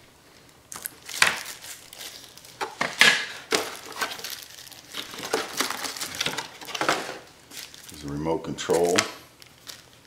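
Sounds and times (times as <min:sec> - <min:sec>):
plastic packaging crinkling: 0:00.4 - 0:10.0.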